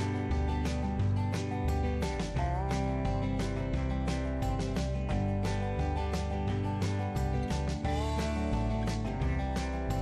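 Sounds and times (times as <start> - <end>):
bass line: 0.0 - 10.0
instrumental music with guitar: 0.0 - 10.0.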